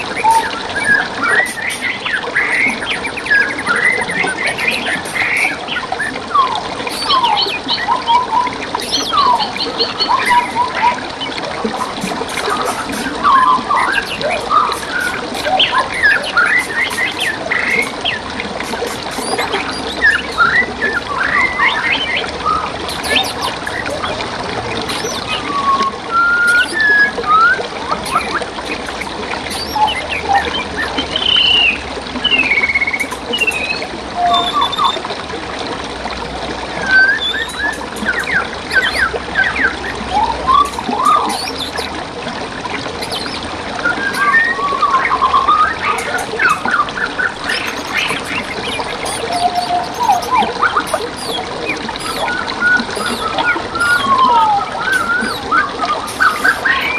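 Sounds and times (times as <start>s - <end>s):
songbirds chirping and whistling: 0.0s - 35.2s, 36.5s - 56.9s
stream water trickling: 0.0s - 56.9s.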